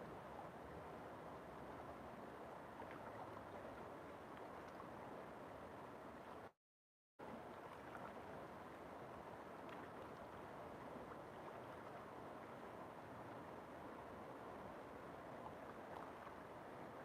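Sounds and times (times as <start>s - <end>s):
river water flowing: 0.0s - 6.5s, 7.2s - 17.0s.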